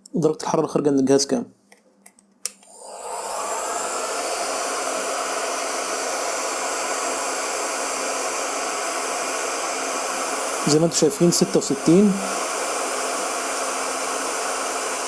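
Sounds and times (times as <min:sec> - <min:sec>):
heat gun fan rushing air: 0:02.4 - 0:15.0.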